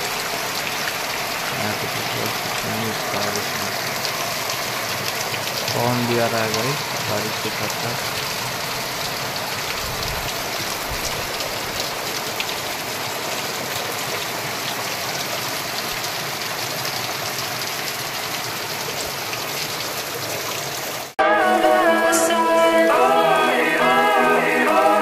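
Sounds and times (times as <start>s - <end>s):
heavy rain spattering on ground: 0.0s - 21.2s
water streaming off roof edge: 0.0s - 21.2s.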